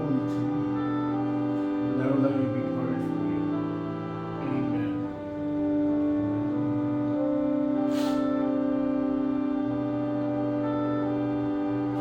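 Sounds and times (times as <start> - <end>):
slow instrumental church music: 0.0 - 12.0.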